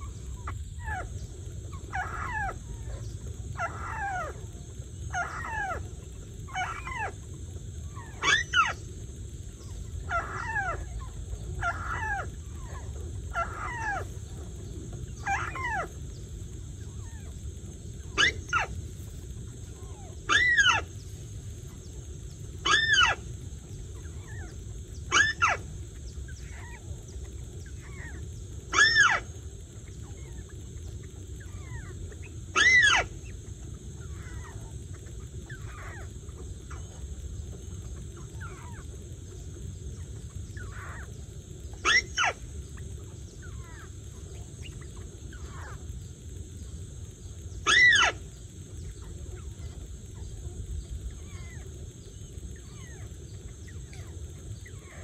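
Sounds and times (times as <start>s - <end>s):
bird calling: 0.0s - 55.0s
faint steady hiss: 0.0s - 55.0s.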